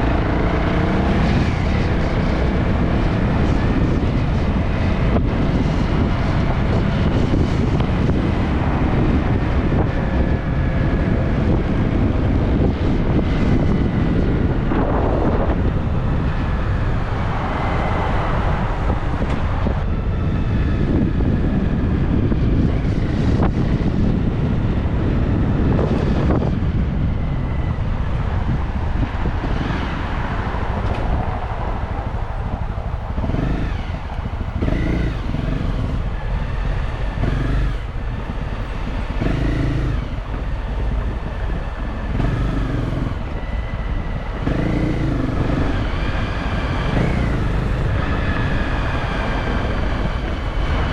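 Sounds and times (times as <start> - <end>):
motorcycle engine: 0.0 - 50.9
wind rumble on microphone: 0.0 - 50.9.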